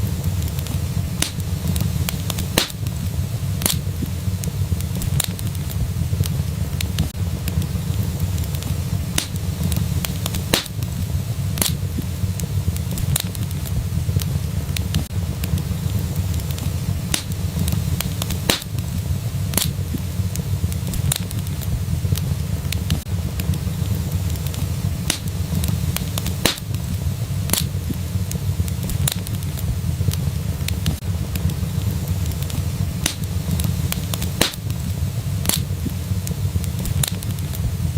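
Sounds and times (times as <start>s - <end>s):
pops and snaps of burning wood: 0.0s - 37.6s
low rumble of flames: 0.0s - 37.9s
wood fire crackling: 0.0s - 37.9s.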